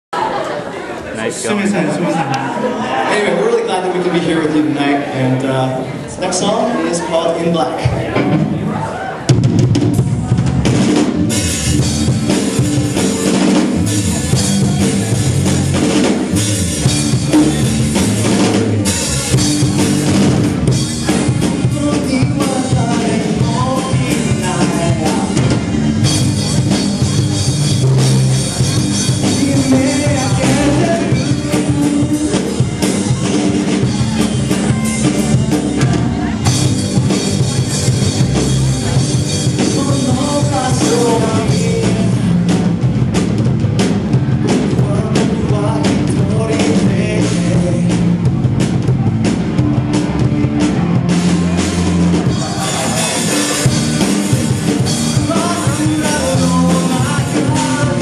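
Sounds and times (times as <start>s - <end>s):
live rock band playing: 1.3s - 58.0s
distorted electric guitars: 7.8s - 58.0s.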